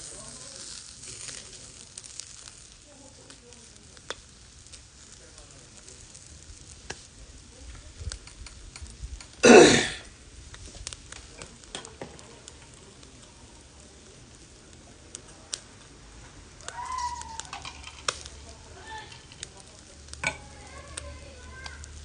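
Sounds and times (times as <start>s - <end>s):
crackles and pops: 0.0s - 22.0s
meat sizzling over charcoal: 0.0s - 22.0s.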